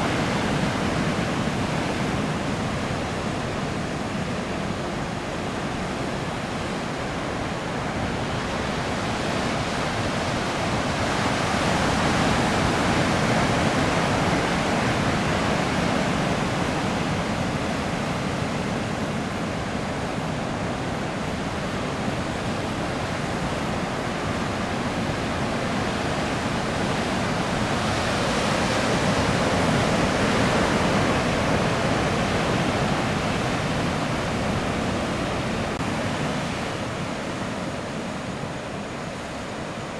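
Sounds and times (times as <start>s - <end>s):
surf roaring on a reef: 0.0s - 39.9s.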